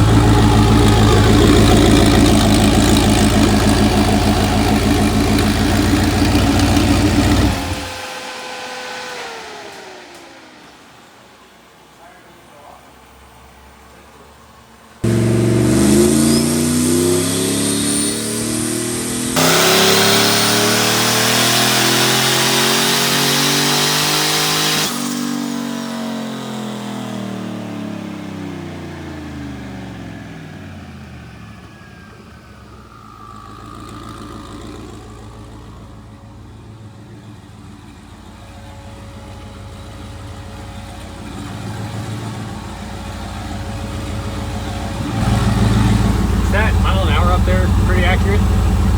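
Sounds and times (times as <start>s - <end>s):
engine accelerating hard: 0.0s - 11.6s, 15.0s - 48.9s.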